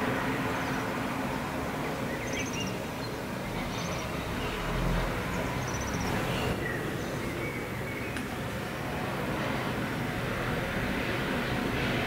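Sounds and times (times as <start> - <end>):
distant town rumble: 0.0 - 12.0.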